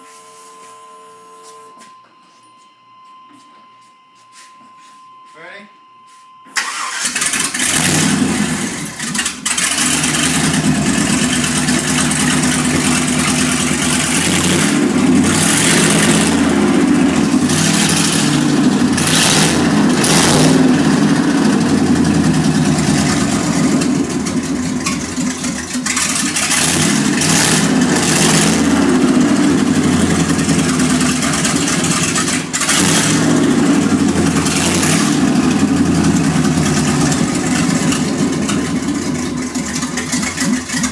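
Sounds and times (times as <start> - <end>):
truck engine starting and revving: 6.6 - 40.9.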